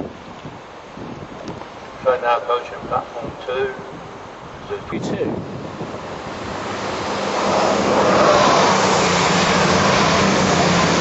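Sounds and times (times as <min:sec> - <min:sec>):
passenger train passing: 0:02.0 - 0:11.0.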